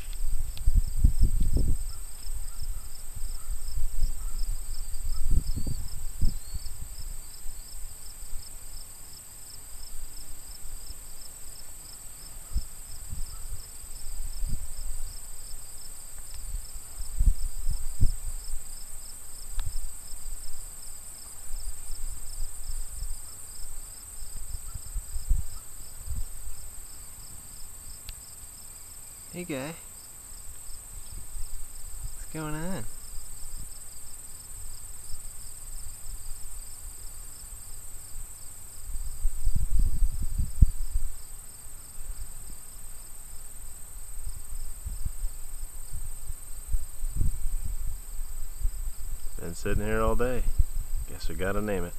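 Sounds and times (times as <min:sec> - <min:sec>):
insects trilling: 0:00.0 - 0:51.9.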